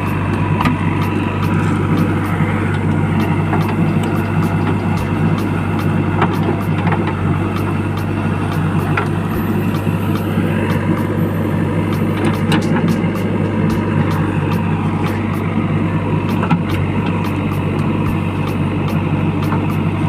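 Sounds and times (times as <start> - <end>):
engine-like drone: 0.0 - 20.0.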